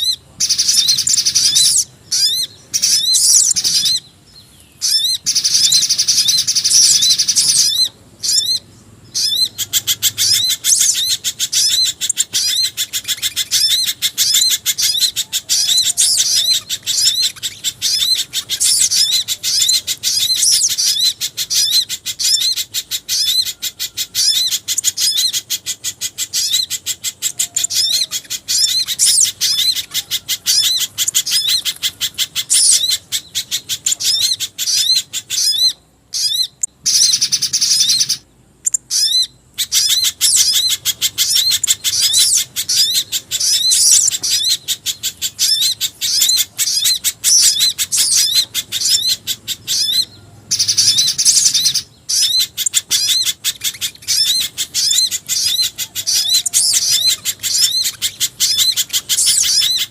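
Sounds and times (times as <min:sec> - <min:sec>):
rapid high bird chirps: 0:00.0 - 0:59.9.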